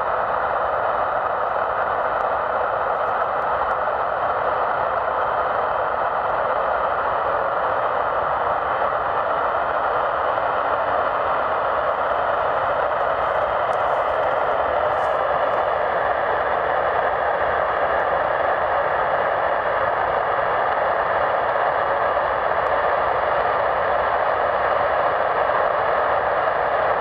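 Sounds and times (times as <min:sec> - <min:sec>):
faint high whine: 0:00.0 - 0:27.0
jet engines running: 0:00.0 - 0:27.0.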